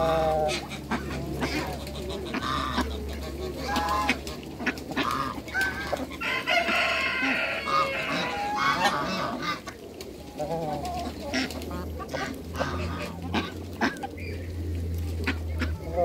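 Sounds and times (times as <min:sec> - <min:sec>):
chickens clucking and squawking: 0:00.0 - 0:16.0.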